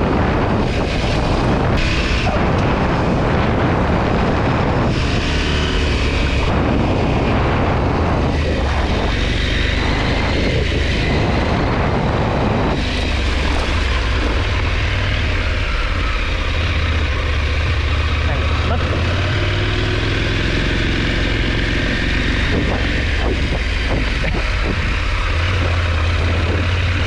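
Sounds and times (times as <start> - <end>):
motorcycle engine running: 0.0 - 27.0
wind on microphone: 0.0 - 27.0.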